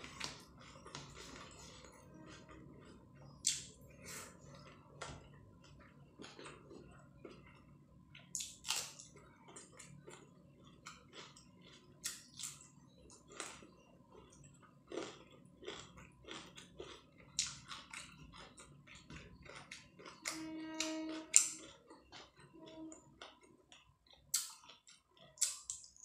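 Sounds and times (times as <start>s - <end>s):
close-up chewing: 0.0s - 26.0s.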